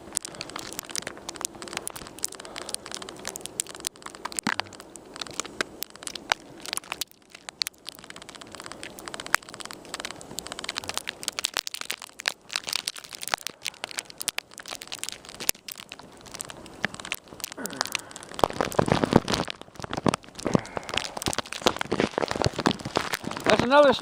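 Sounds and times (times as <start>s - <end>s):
close crunching and crinkling: 0.0s - 24.0s.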